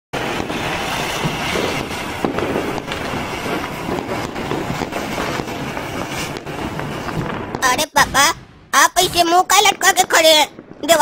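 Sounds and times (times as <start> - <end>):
fireworks crackling and banging: 0.2 - 11.0.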